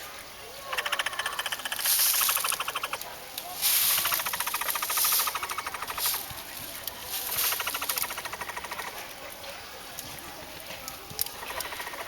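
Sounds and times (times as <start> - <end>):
capybara clicking chatter: 0.6 - 12.0.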